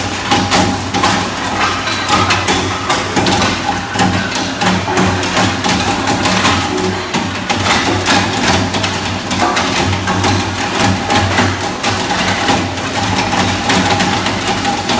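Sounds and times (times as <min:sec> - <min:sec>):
shredding crackle and knocks: 0:00.0 - 0:14.9.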